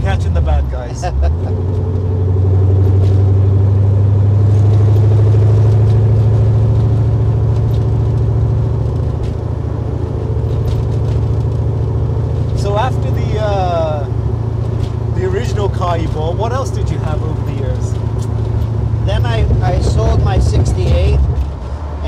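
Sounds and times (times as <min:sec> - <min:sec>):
car engine and exhaust droning: 0:00.0 - 0:22.0.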